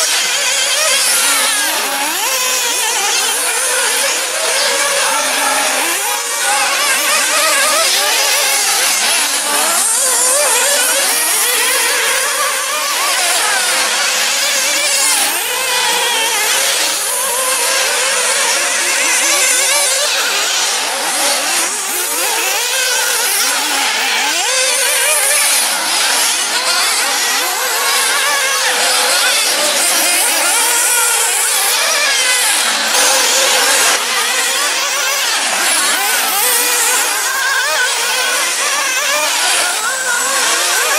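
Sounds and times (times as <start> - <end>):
model car engines revving: 0.0 - 40.9.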